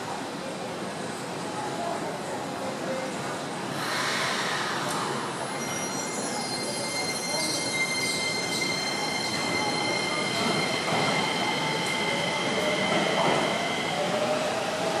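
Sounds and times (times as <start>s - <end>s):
station background noise: 0.0s - 15.0s.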